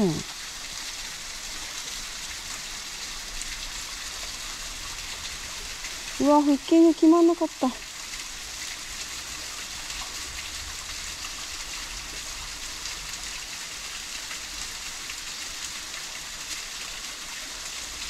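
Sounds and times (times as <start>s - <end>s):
water patter hiss: 0.0s - 18.0s.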